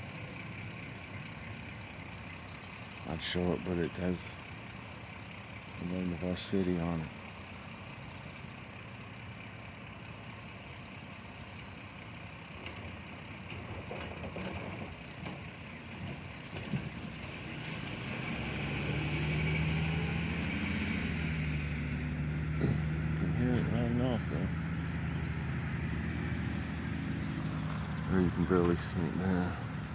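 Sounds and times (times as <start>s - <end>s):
garbage truck engine running: 0.0s - 29.9s.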